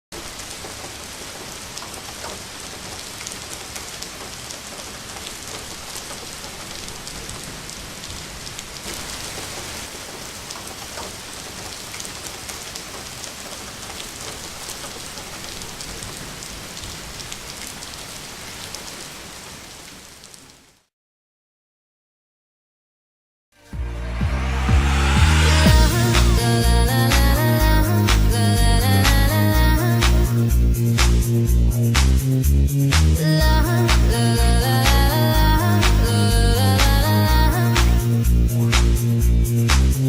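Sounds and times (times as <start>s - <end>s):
rain falling steadily: 0.1s - 20.9s, 24.4s - 40.0s.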